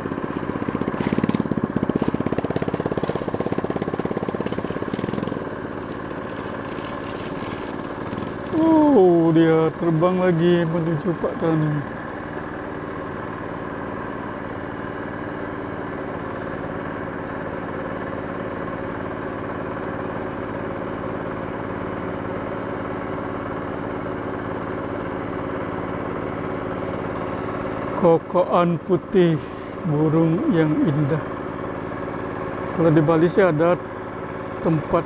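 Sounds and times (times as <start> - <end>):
hand tractor engine running: 0.0 - 35.0.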